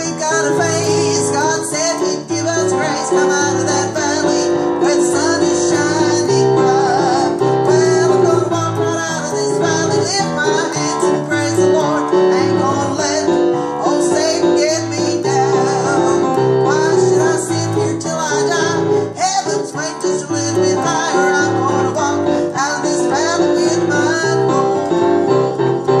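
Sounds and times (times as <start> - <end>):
woman singing: 0.0 - 25.4
digital piano chords and bass: 0.0 - 26.0.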